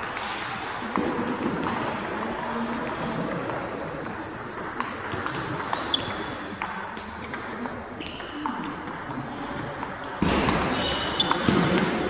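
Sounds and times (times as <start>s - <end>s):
sports hall background noise: 0.0s - 12.0s.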